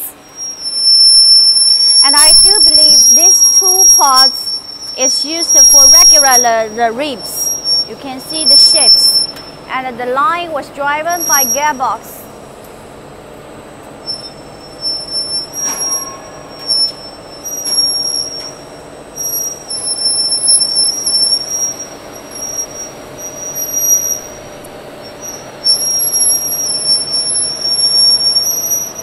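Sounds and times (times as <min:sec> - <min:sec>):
high-pitched metallic squeal: 0:00.0 - 0:09.8, 0:10.5 - 0:12.3, 0:14.0 - 0:29.0
roll forming machine humming: 0:00.0 - 0:29.0.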